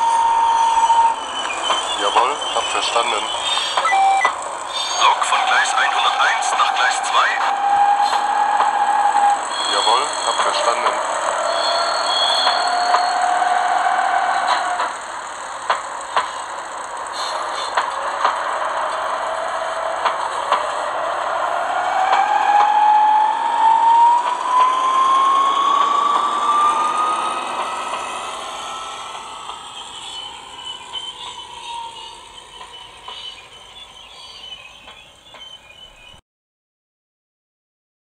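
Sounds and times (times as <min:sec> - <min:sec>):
model locomotive running: 0:00.0 - 0:36.1
wheels clicking on track: 0:00.0 - 0:36.2.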